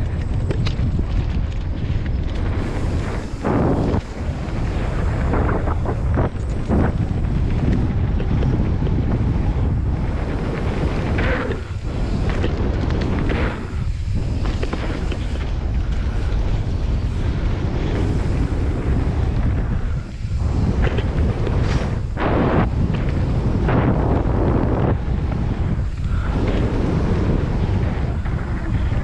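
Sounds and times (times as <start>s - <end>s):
bike rattling over bumps: 0.0s - 29.0s
wind buffeting microphone: 0.0s - 29.0s.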